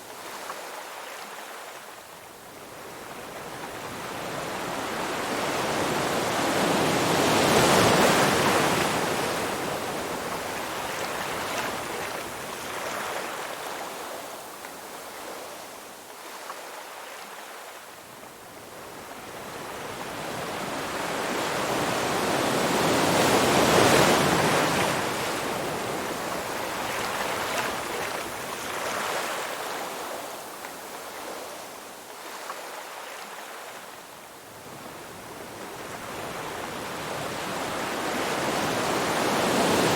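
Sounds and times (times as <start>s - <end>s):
ocean waves crashing on shore: 2.9s - 14.3s, 18.9s - 39.9s.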